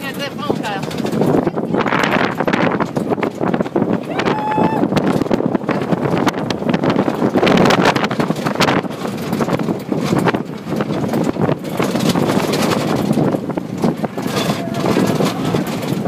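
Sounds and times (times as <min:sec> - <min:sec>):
knocks and rattles from jolts: 0:00.0 - 0:04.0, 0:05.0 - 0:16.0
vehicle engine and tyre noise: 0:00.0 - 0:16.0
wind buffeting microphone: 0:00.0 - 0:16.0.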